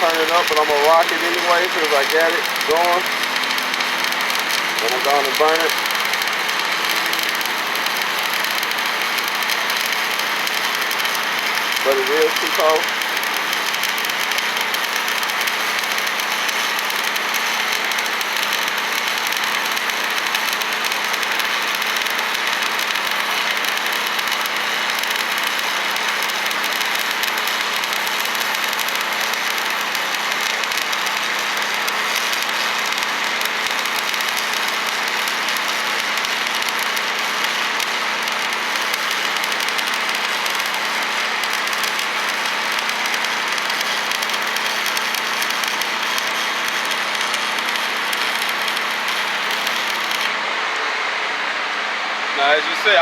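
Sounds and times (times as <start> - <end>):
welding arc hissing and crackling: 0.0 - 50.6, 52.3 - 53.0.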